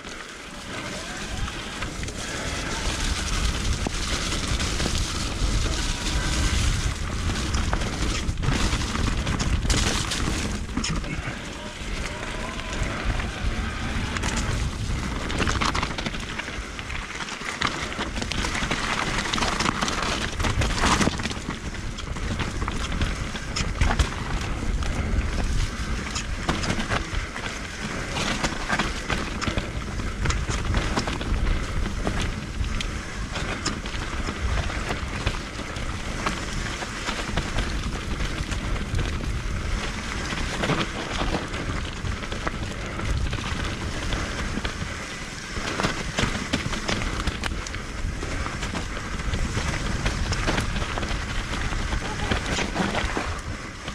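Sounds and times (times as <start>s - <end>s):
bike clicks and rattles: 0.0s - 53.9s
bike tyres rumbling over dirt: 0.0s - 53.9s
wind buffeting microphone: 0.0s - 53.9s.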